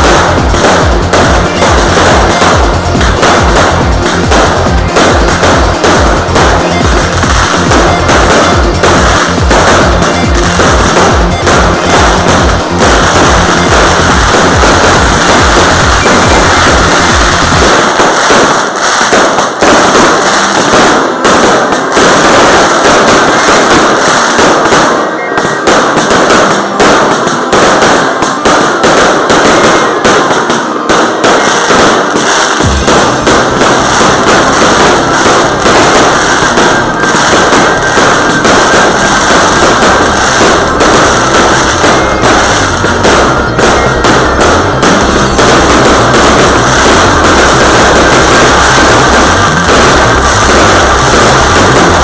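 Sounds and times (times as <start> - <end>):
deep firework booms: 0.0 - 52.0
fireworks crackling and banging: 0.0 - 52.0.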